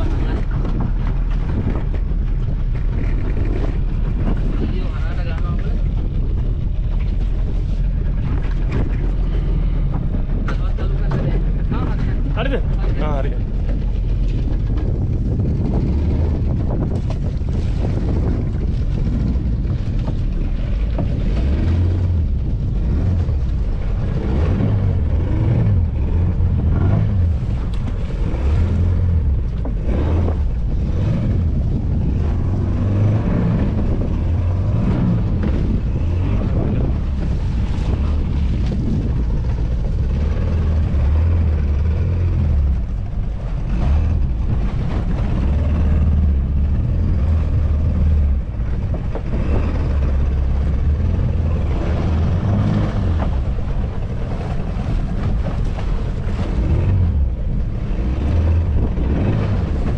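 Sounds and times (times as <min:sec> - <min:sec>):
outboard motor running: 0:00.0 - 0:59.9
water splashing against hull: 0:00.0 - 0:59.9
wind buffeting microphone: 0:00.0 - 0:59.9.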